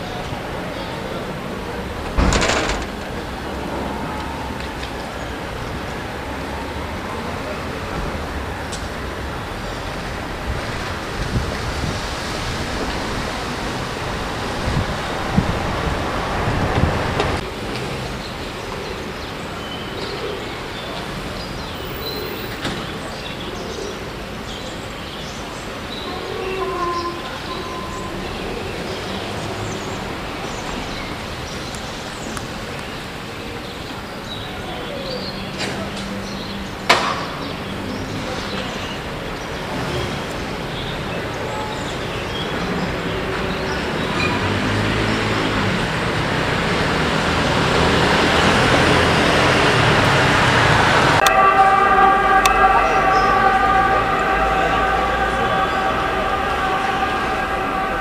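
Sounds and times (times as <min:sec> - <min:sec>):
outdoor background noise: 0:00.0 - 0:58.0
street traffic noise: 0:00.0 - 0:58.0.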